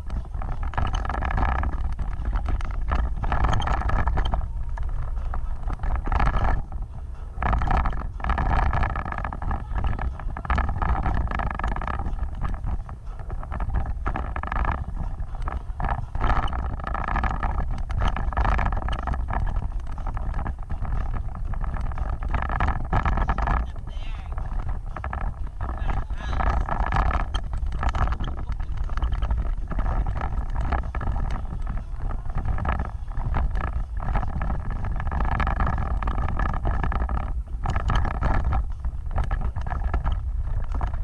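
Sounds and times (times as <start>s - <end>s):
knocks and rattles: 0.0s - 41.0s
off-road vehicle engine: 0.0s - 41.0s
wind rumbling on microphone: 0.0s - 41.0s.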